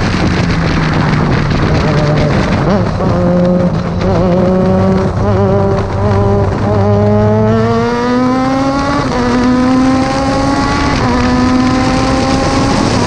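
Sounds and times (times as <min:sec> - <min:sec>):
race car engine accelerating: 0:00.0 - 0:13.0
wind rush: 0:00.0 - 0:13.0.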